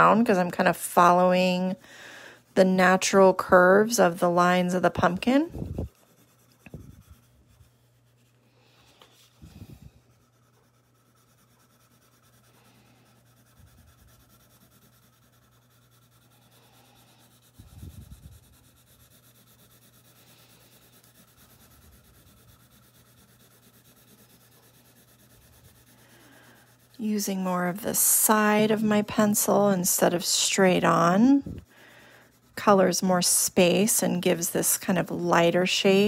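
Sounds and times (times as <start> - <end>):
pencil scratching on paper: 0.0 - 1.8, 2.5 - 36.0
faint low hum: 0.0 - 36.0.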